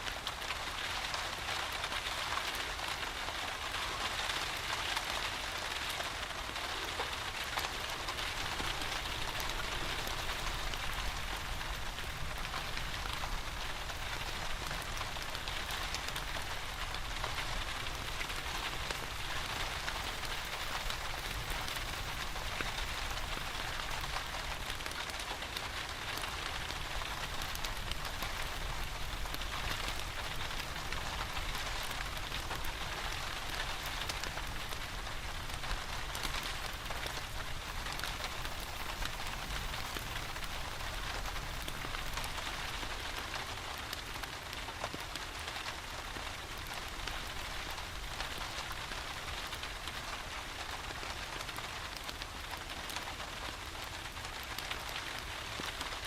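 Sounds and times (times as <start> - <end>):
steady rain falling: 0.0 - 56.0
fireplace crackling: 5.6 - 50.8.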